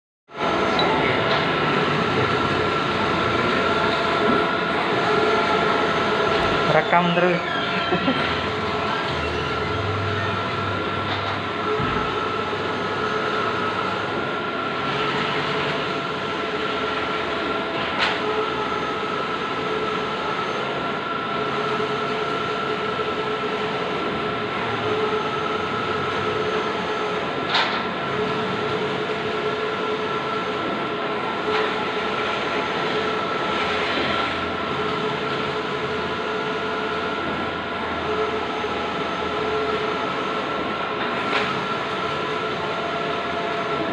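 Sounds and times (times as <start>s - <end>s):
printer mechanical whir: 0.3s - 43.9s.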